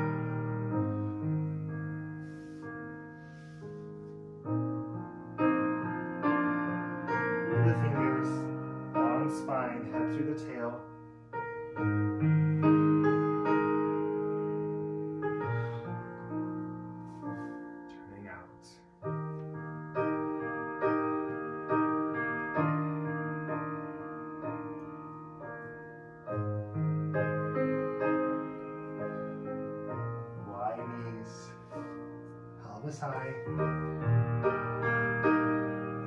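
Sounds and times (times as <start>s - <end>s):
piano playing slow chords: 0.0s - 36.0s.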